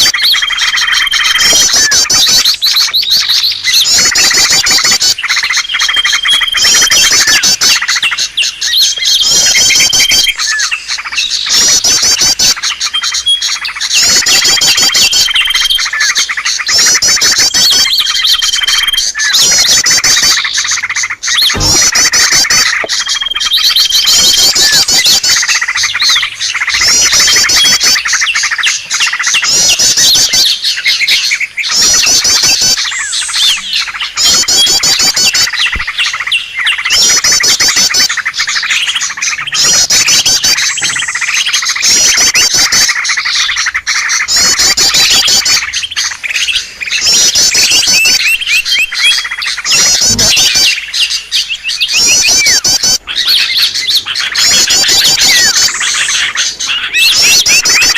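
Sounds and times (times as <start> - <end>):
fast high bird trills: 0.0 - 57.9
small birds chirping: 0.0 - 57.9.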